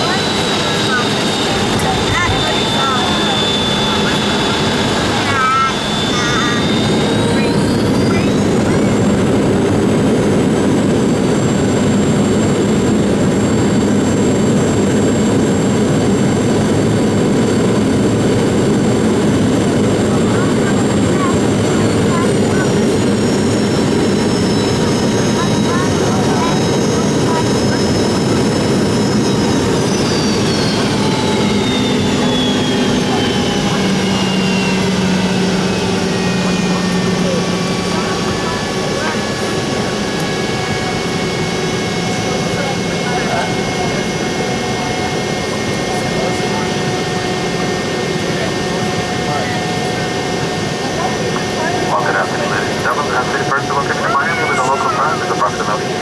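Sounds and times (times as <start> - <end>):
high engine whine: 0.0 - 56.0
jet engines roaring in cabin: 0.0 - 56.0.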